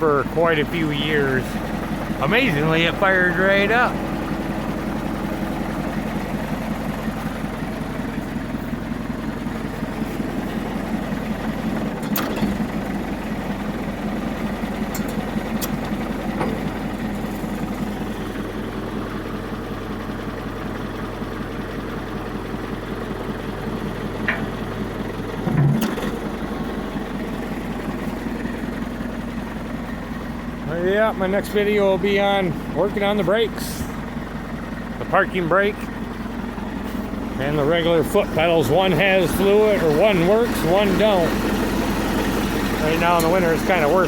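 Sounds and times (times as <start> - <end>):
backhoe engine idling: 0.0 - 44.0.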